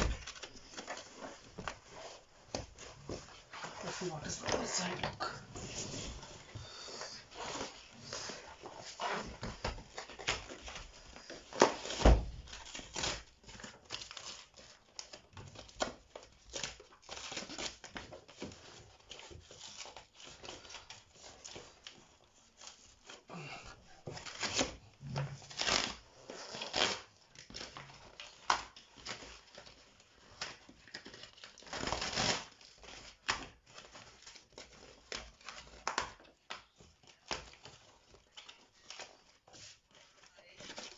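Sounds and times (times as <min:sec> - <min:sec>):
cardboard tearing and rustling: 0:00.0 - 0:06.5, 0:07.2 - 0:23.3, 0:24.0 - 0:40.9.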